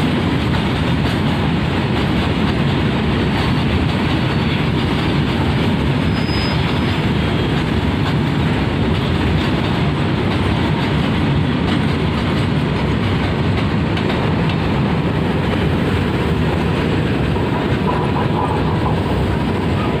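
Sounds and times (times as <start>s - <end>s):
train wheels on track: 0.0s - 20.0s.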